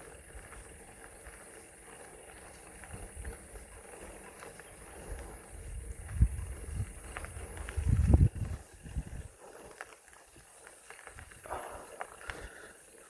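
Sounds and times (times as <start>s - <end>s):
bike clicks and rattles: 0.0s - 13.0s
bike tyres on dirt: 0.0s - 13.0s.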